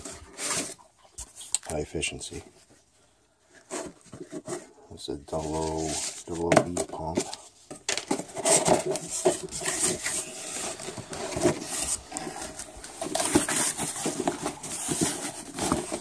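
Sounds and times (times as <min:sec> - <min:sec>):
cardboard rustling and scraping: 0:00.0 - 0:01.4, 0:02.3 - 0:16.0.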